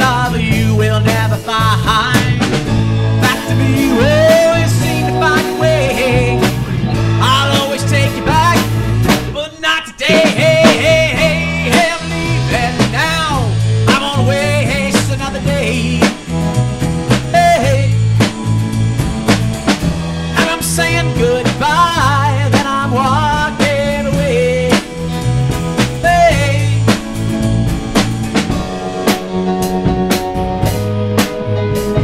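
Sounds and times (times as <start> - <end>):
electric bass: 0.0 - 9.4, 10.0 - 32.0
drum kit: 0.0 - 32.0
electric guitar: 0.0 - 32.0
keyboard: 0.0 - 32.0.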